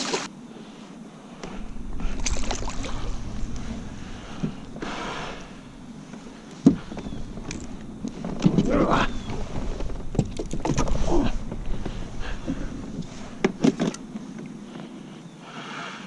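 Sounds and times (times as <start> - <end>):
gear knocking and rustling: 1.4 - 15.0.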